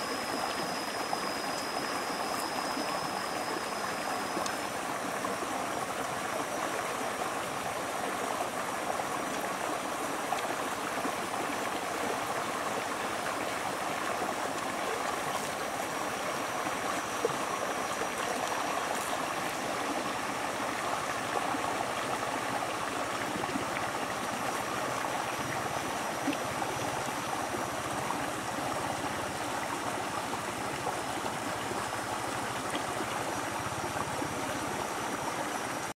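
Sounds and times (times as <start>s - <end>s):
stream running over rocks: 0.0s - 35.9s.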